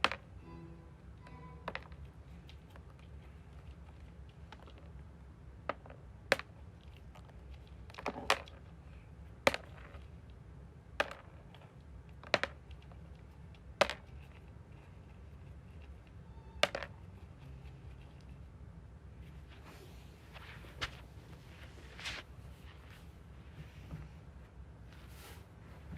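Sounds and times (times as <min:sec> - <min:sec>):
low steady hum: 0:00.0 - 0:25.9.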